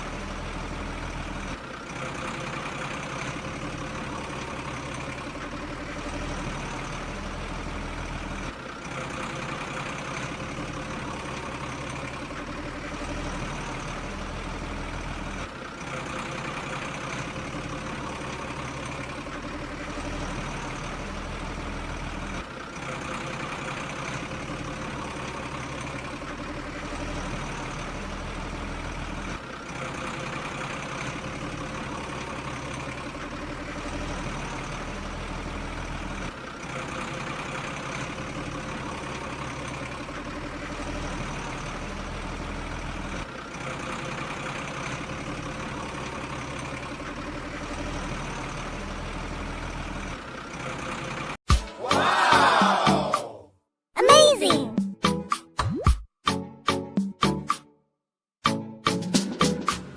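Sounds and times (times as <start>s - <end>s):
heavy vehicle engine idling: 0.0s - 51.4s.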